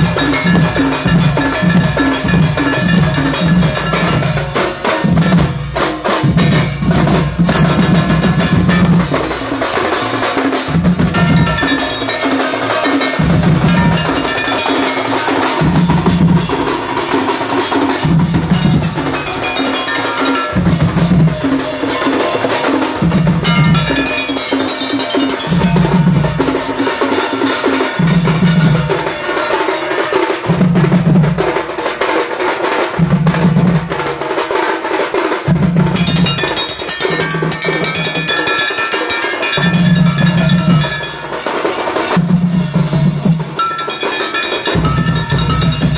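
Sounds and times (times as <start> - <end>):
metal gongs clanging: 0.0 - 30.6, 35.7 - 45.9
percussion band playing: 0.0 - 45.9.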